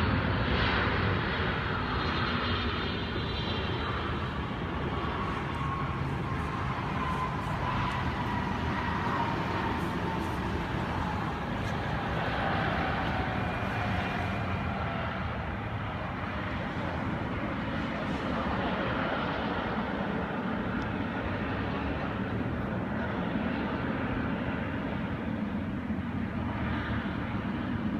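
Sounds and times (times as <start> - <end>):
jet engines roaring with whine: 0.0 - 27.9.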